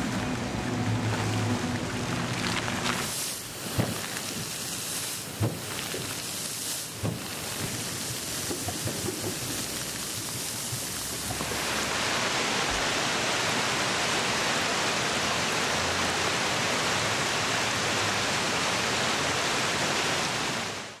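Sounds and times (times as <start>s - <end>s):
fountain water splashing: 0.0s - 21.0s
water rushing down cascade: 0.0s - 21.0s.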